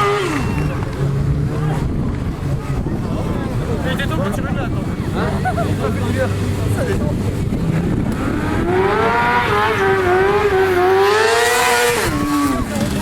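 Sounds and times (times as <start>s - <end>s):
motorcycle engine revving high: 0.0s - 13.0s.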